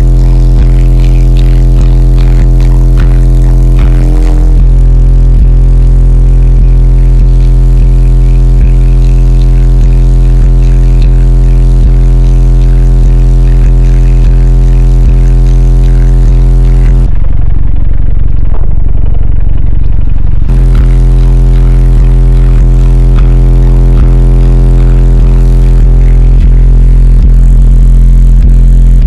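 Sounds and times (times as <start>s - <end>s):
distorted deep bass tone: 0.0s - 29.0s.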